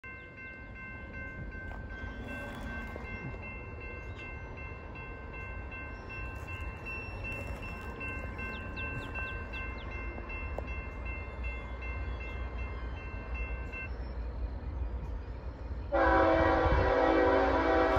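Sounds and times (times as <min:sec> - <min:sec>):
railroad crossing bell ringing: 0:00.0 - 0:17.9.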